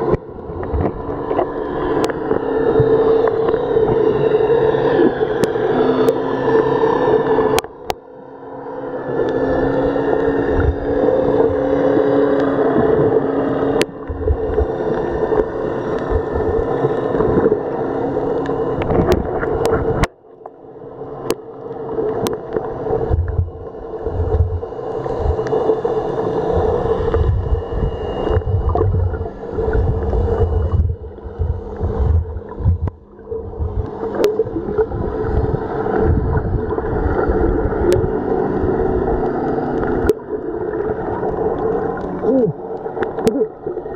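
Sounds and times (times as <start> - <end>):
low hum: 0.0 - 43.9
muffled underwater rumble: 0.0 - 43.9.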